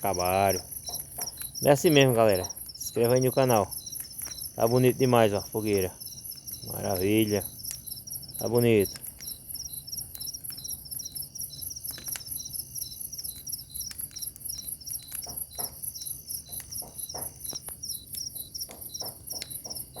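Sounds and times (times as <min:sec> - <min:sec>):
bonfire crackling and popping: 0:00.0 - 0:20.0
crickets chirping: 0:00.0 - 0:20.0.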